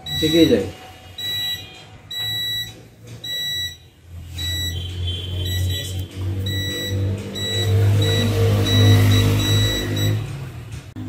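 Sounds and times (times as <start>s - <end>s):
electronic beeper beeping: 0.0s - 0.5s, 1.2s - 10.3s.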